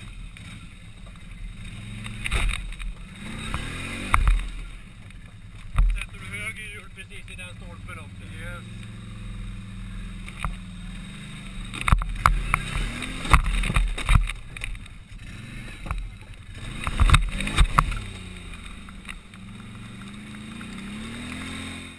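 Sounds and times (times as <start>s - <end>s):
atv engine running: 0.0s - 21.9s
vehicle scraping over logs: 0.0s - 21.9s.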